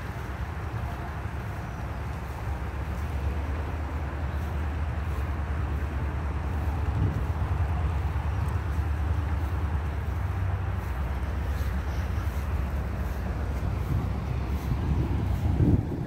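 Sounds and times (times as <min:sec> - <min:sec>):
faint outdoor hiss: 0:00.0 - 0:16.0
wind buffeting microphone: 0:00.0 - 0:16.0.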